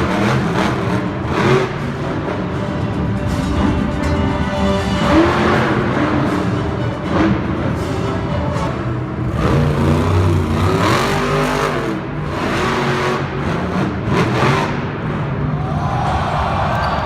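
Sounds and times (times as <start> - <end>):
truck engine revving hard: 0.0 - 15.6.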